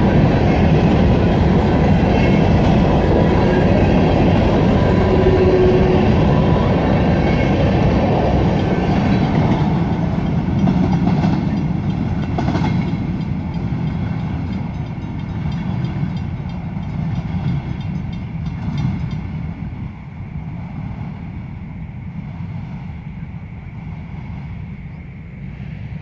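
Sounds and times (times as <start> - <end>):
train cars clanking: 0.0 - 25.0
freight train rolling rumble: 0.0 - 26.0.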